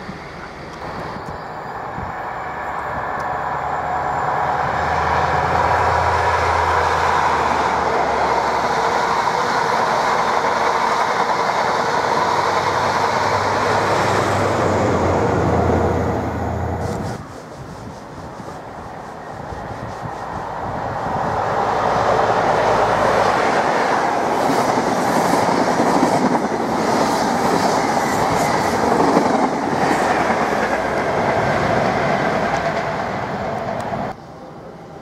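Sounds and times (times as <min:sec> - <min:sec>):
train wheels rushing on rails: 0:00.0 - 0:35.0.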